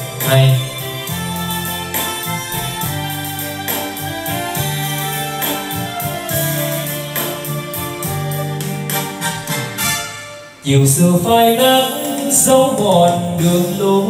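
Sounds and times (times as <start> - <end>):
instrumental karaoke backing track: 0.0 - 14.0.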